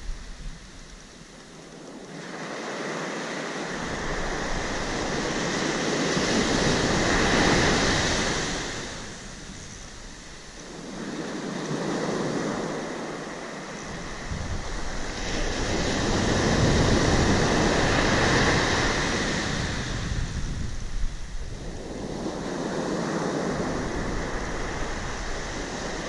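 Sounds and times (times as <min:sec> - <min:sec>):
surf breaking on sand beach: 0:00.0 - 0:26.0.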